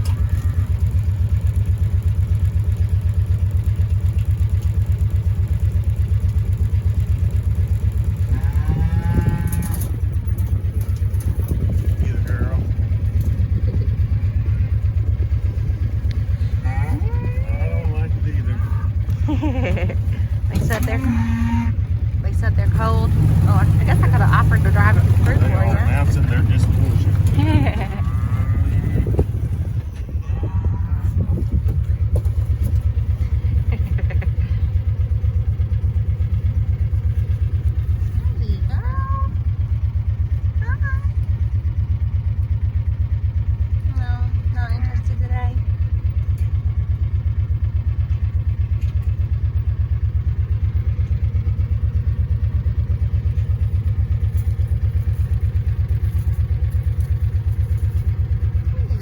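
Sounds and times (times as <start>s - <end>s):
vehicle engine throbbing: 0.0s - 59.0s.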